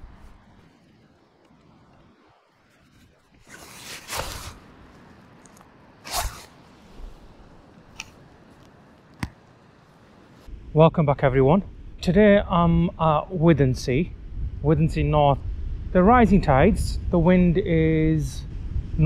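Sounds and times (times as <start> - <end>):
wind and surf: 0.0 - 19.0.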